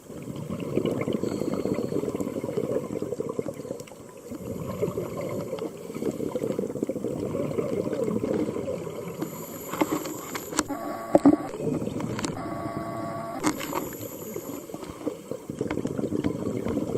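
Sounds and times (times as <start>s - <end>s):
underwater bubbles gurgling: 0.0s - 12.4s, 13.6s - 16.9s.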